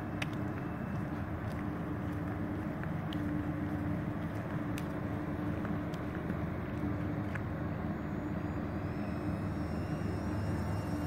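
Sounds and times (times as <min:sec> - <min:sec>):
rc jet ducted fan drone: 0:00.0 - 0:11.0.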